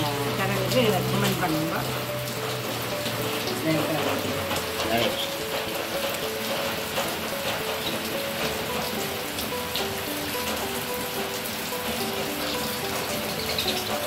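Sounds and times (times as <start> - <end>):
light background music melody: 0.0 - 14.0
steady rain falling: 0.0 - 14.0.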